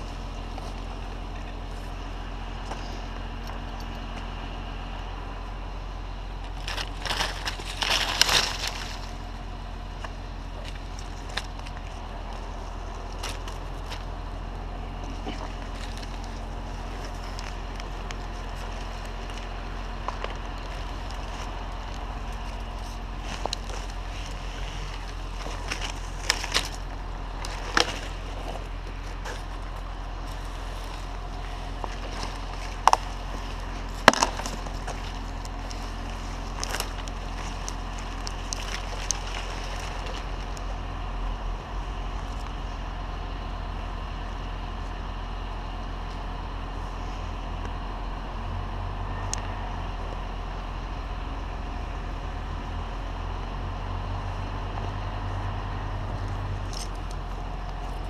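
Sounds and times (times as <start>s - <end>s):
engine idling drone: 0.0s - 58.0s.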